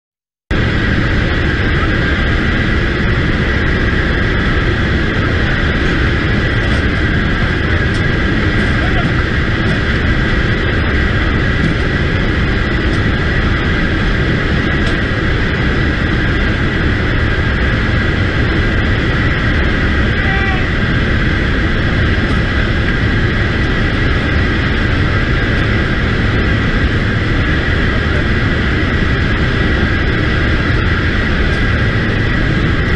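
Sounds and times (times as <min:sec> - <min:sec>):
aircraft engines running: 0:00.5 - 0:32.9
high whine: 0:00.5 - 0:32.9
wind rushing: 0:00.5 - 0:32.9.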